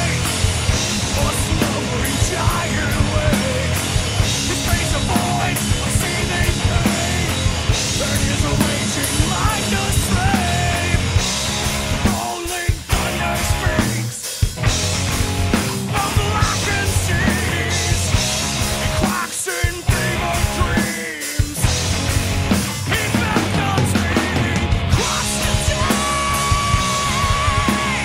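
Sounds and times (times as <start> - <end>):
punk rock music with singing: 0.0 - 28.0.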